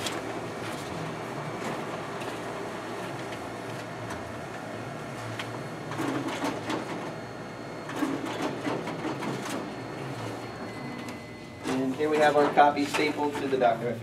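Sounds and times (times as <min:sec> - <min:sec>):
copier whirring: 0:00.0 - 0:14.0.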